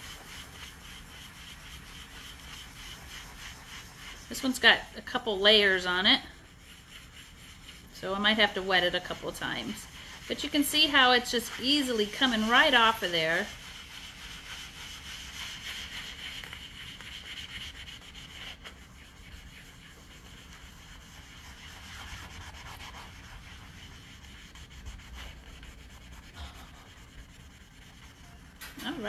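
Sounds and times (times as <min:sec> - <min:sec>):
eraser scrubbing wet chalkboard: 0:00.0 - 0:29.0.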